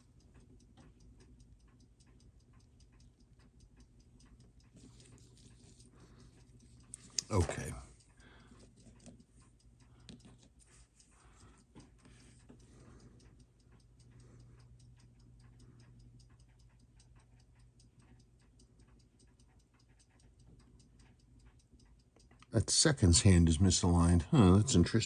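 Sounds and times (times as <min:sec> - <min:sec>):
clock ticking rapidly: 0:00.0 - 0:25.0
low steady hum: 0:00.0 - 0:25.0.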